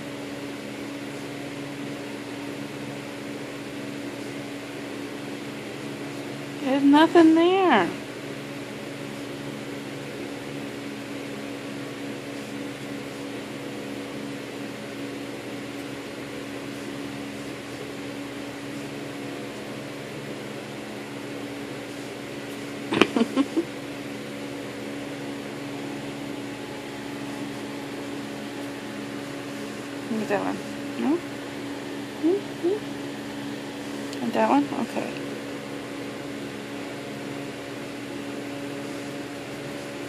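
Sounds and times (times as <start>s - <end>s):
mechanical room hum: 0.0s - 40.0s.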